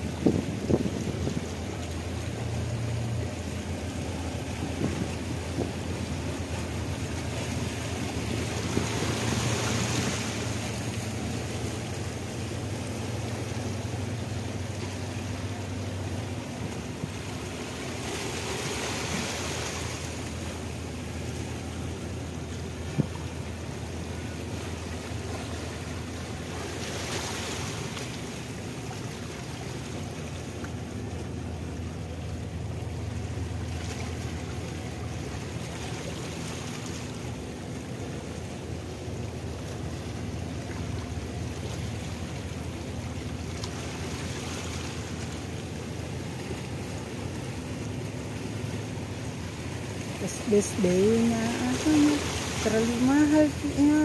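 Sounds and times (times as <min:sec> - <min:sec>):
ship engines droning: 0:00.0 - 0:54.0
waves washing: 0:00.0 - 0:54.0.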